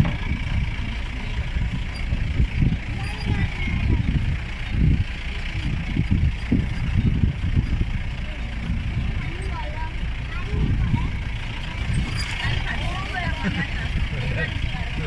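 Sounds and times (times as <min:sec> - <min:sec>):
vehicle engine and road rumble: 0:00.0 - 0:15.0
wind buffeting microphone: 0:00.0 - 0:15.0.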